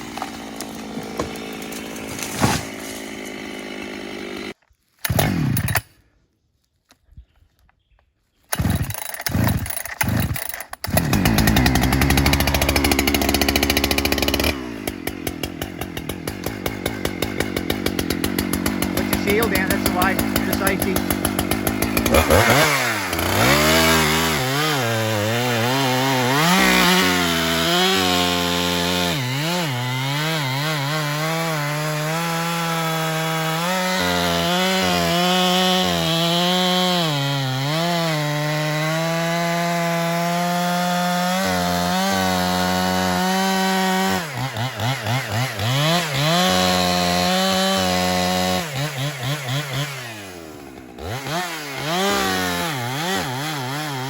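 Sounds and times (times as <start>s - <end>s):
chainsaw cutting wood: 0.0s - 6.1s, 8.5s - 54.0s.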